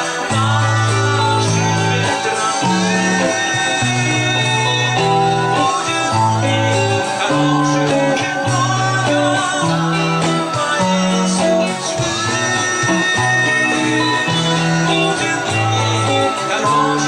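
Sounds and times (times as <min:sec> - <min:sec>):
guitar playing chords: 0:00.0 - 0:17.0.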